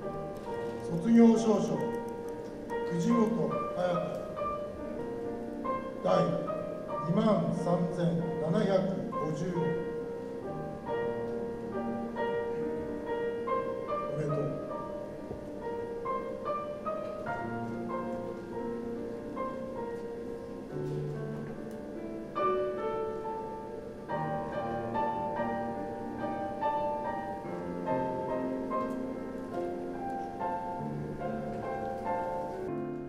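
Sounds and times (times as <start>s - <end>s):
classical piano piece: 0.0s - 33.0s.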